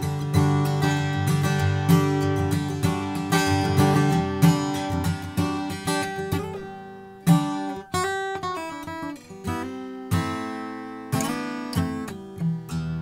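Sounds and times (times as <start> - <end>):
acoustic guitar picked notes: 0.0 - 13.0
acoustic guitar strummed chords: 0.0 - 13.0.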